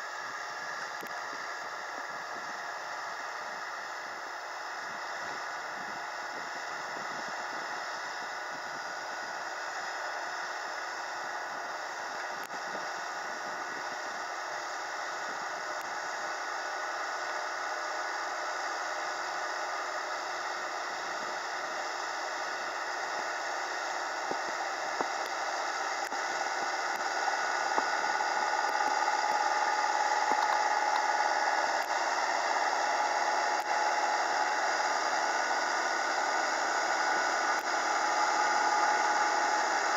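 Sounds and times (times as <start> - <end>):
tractor engine rattling: 0.0 - 39.9.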